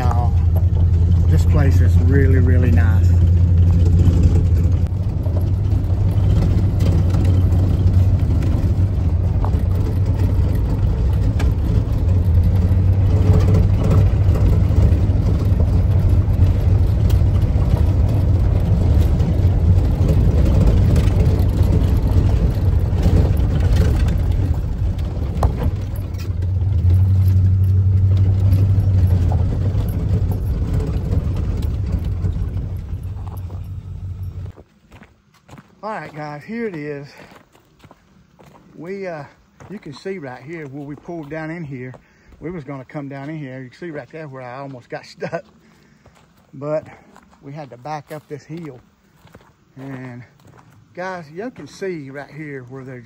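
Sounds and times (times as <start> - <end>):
van engine and road drone: 0.0 - 53.0.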